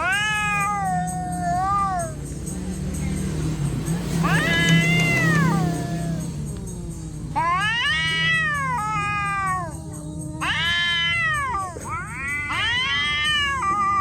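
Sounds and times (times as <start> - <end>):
cat yowling: 0.0 - 2.5, 3.9 - 14.0.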